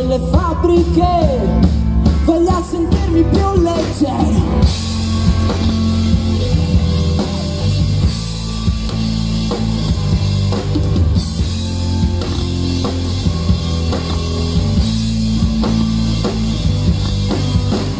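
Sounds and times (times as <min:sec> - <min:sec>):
drum kit beat: 0:00.0 - 0:17.9
electric bass: 0:00.0 - 0:17.9
electric guitars: 0:00.0 - 0:17.9.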